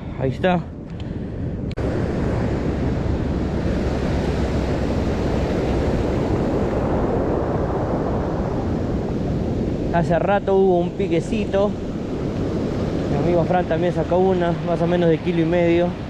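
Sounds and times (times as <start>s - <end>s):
wind on microphone: 0.0s - 16.0s
ocean surf washing on beach: 1.7s - 16.0s.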